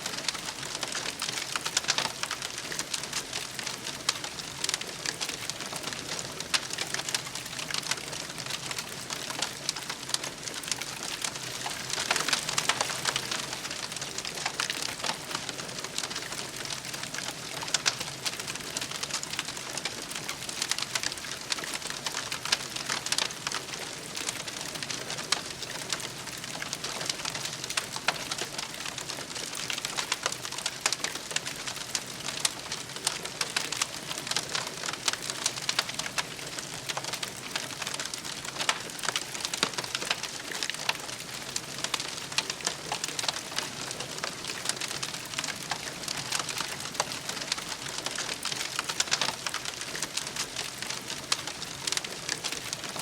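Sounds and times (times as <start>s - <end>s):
campfire crackling and hissing: 0.0s - 53.0s.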